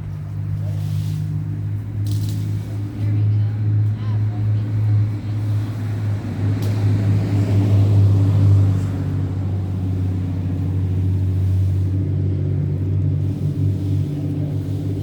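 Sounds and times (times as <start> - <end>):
large engine droning: 0.0 - 15.0.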